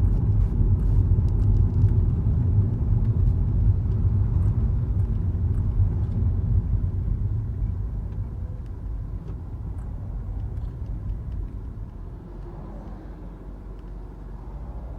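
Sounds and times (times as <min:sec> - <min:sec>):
low mechanical rumble from car: 0:00.0 - 0:14.9.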